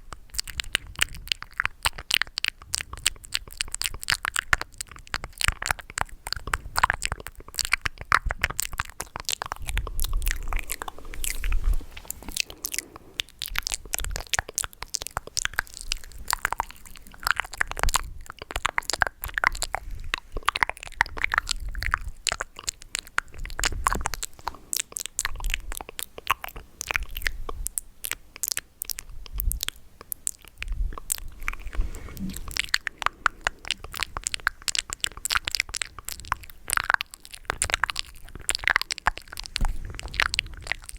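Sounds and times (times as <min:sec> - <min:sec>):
wet mouth clicks and smacks: 0:00.0 - 0:40.9.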